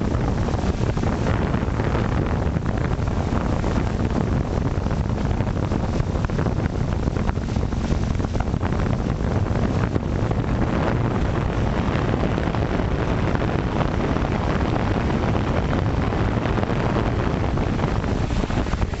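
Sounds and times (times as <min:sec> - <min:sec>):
drone propeller wash: 0:00.0 - 0:19.0
wind buffeting microphone: 0:00.0 - 0:19.0.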